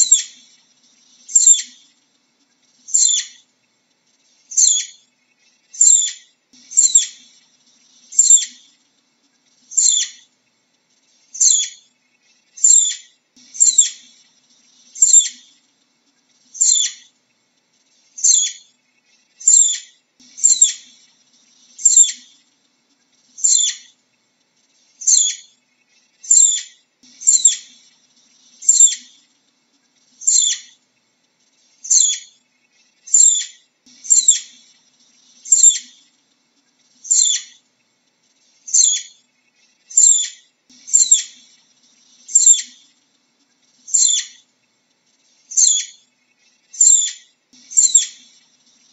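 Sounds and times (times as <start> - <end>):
flying squirrel chirps: 0.0 - 2.0, 2.6 - 8.8, 9.5 - 48.9.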